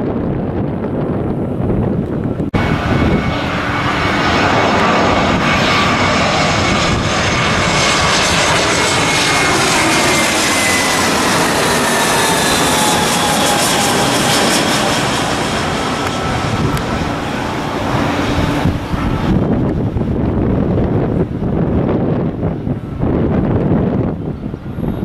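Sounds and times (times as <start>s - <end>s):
airliner jet engines rushing: 0.0s - 25.0s
distant low rumble: 0.0s - 25.0s.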